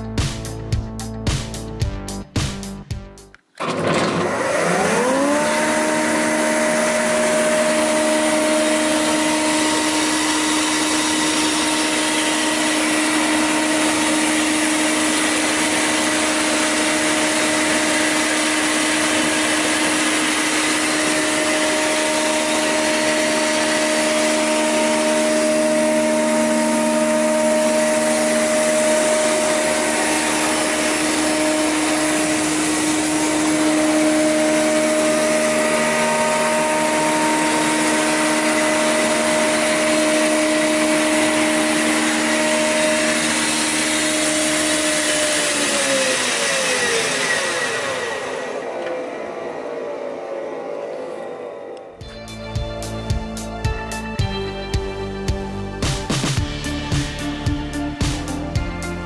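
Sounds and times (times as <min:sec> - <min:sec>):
planer motor whining: 0:03.6 - 0:55.7.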